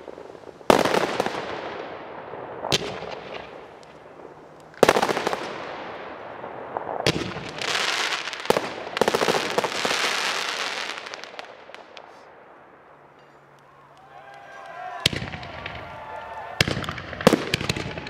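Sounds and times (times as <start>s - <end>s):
firework crackling: 0.0s - 18.0s
firework shells bursting: 2.6s - 18.0s.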